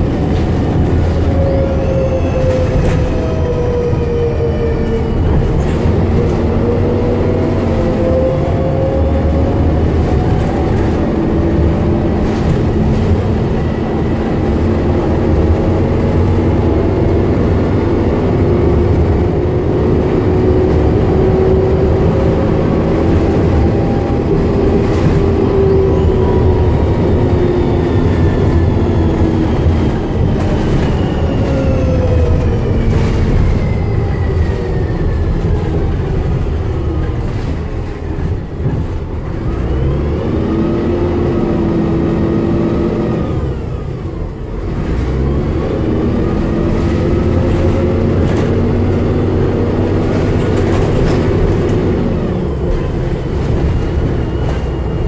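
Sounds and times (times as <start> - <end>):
bus diesel engine running: 0.0 - 55.0
drivetrain whine: 0.0 - 55.0
road noise: 0.0 - 55.0.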